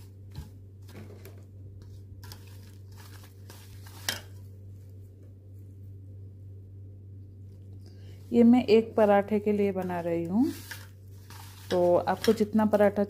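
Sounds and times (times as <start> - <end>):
hand rustling flour in a metal bowl: 0.0 - 6.1, 7.4 - 13.0.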